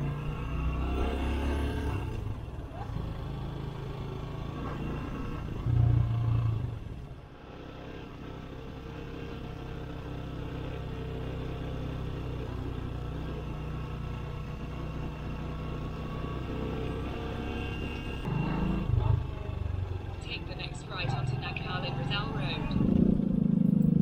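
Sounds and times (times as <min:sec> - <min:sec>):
motorcycle engine running: 0:02.0 - 0:24.0.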